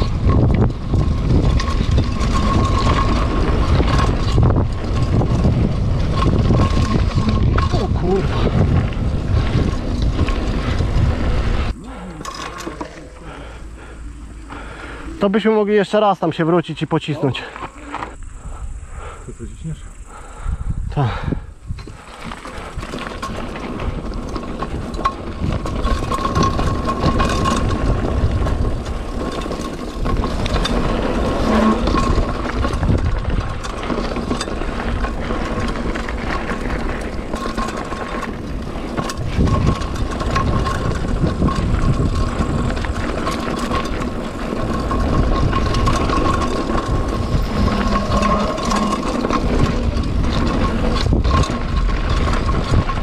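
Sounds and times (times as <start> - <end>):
wind buffeting microphone: 0.0 - 15.8, 18.1 - 53.0
bike rattling and knocking: 0.0 - 18.2, 20.2 - 53.0
bike tyres rumbling on gravel: 0.0 - 53.0.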